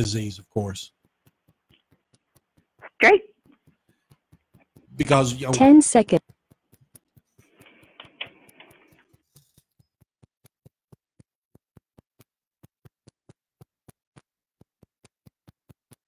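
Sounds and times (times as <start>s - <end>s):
faint ticking: 0.0s - 16.0s.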